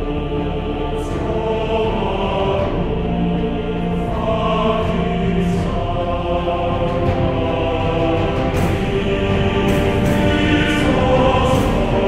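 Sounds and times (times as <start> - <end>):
choir-like background music: 0.0 - 12.0.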